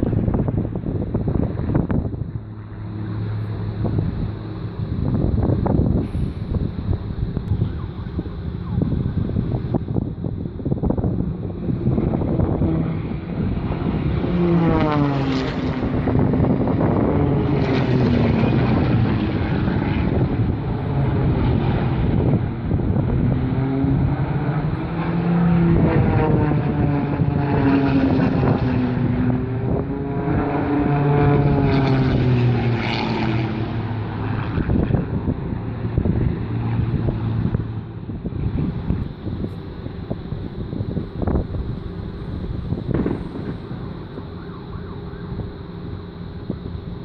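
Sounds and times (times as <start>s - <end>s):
propeller plane buzzing past: 0.0s - 47.0s.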